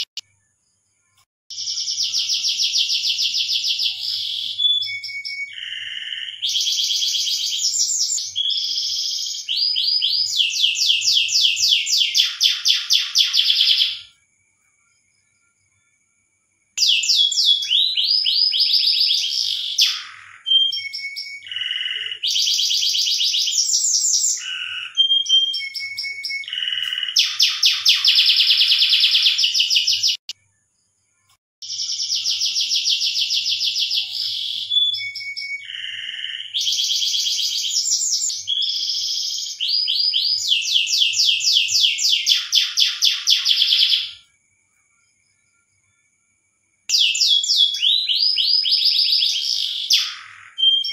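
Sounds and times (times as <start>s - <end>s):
canary singing trills: 0.0s - 14.2s, 16.8s - 30.4s, 31.6s - 44.3s, 46.9s - 50.9s.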